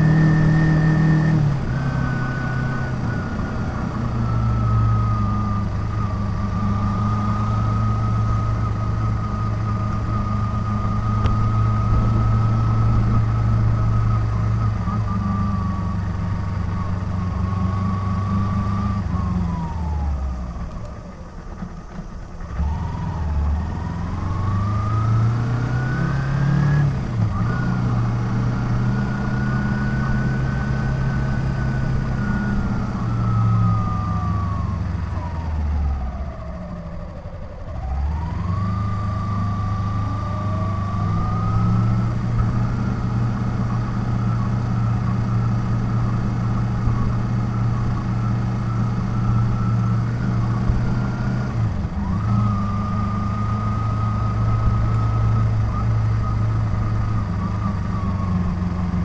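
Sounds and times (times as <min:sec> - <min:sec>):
motorcycle engine whining: 0:00.0 - 0:59.0.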